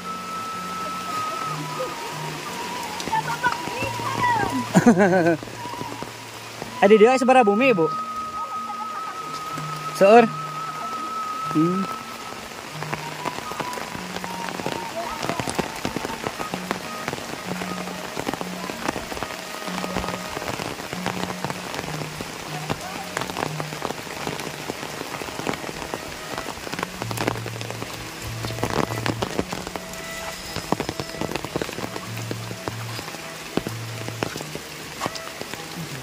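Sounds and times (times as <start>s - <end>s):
rain on leaves and roofs: 0.0s - 36.0s.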